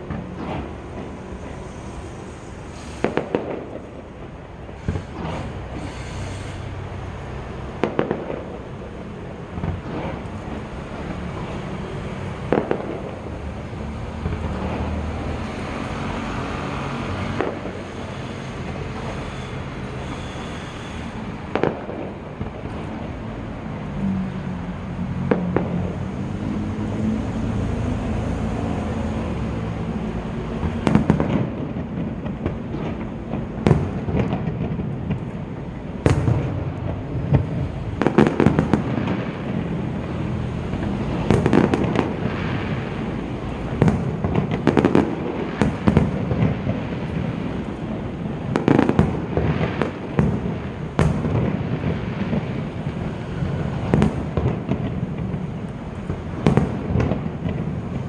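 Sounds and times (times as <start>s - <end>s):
fireworks bangs and pops: 0.0s - 24.4s, 25.0s - 58.0s
continuous low rumble: 0.0s - 58.0s.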